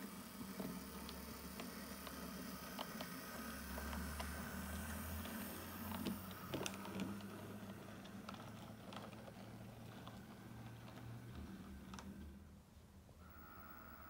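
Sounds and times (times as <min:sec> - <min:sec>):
model train motor hum: 0:00.0 - 0:12.5, 0:13.2 - 0:14.0.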